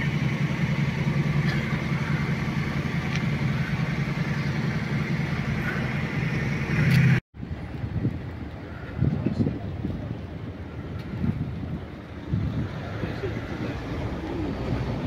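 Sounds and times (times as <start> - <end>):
idling engines hum: 0.0 - 15.0.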